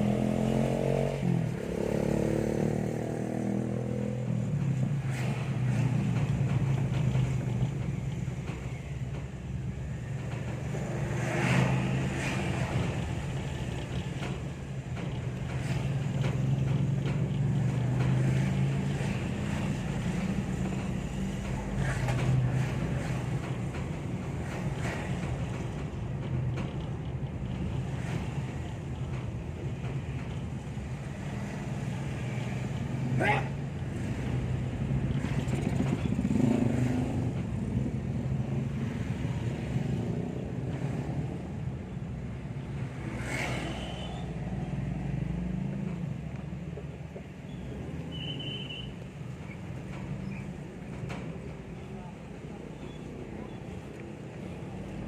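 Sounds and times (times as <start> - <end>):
vehicle engine hum and road noise: 0.0 - 55.0.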